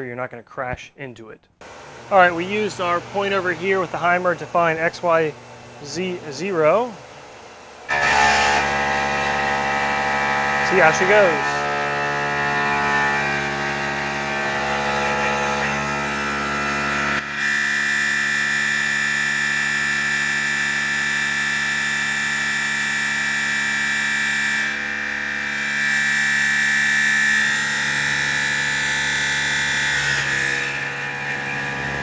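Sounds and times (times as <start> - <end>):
mill spindle cutting aluminum: 1.6 - 32.0.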